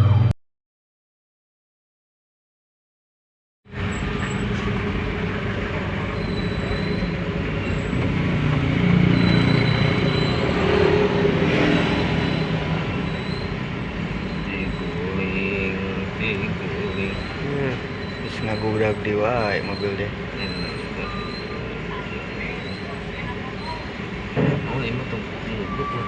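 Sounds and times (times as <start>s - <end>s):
diesel engine running: 3.7s - 26.0s.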